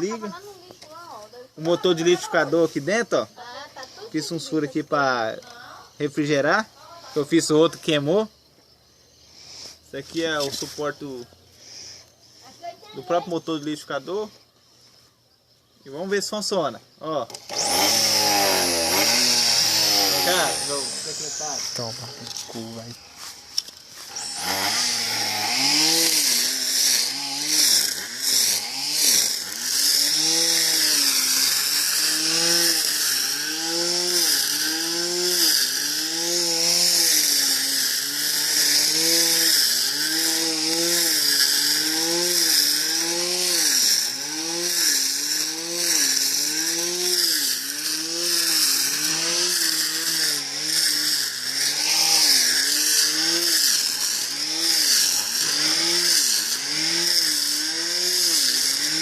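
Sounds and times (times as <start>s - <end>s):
string trimmer motor whining: 0.0s - 8.3s, 17.0s - 59.0s.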